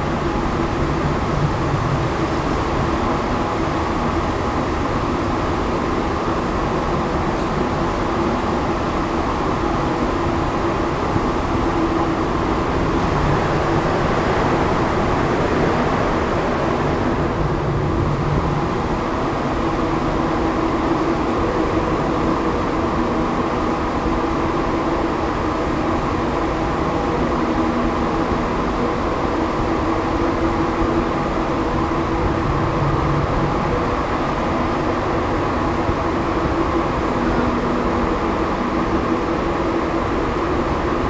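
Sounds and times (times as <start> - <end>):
steady humming tones: 0.0 - 41.0
train running rumble: 0.0 - 41.0.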